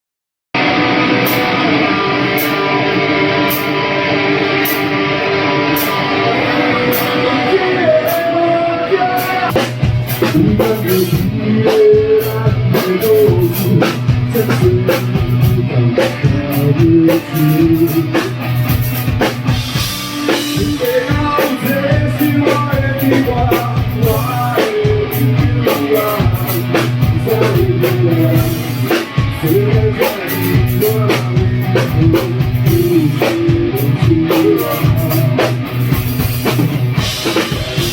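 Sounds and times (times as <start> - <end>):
bass guitar: 0.6 - 37.9
drum kit: 0.6 - 37.9
guitar chords: 0.6 - 37.9.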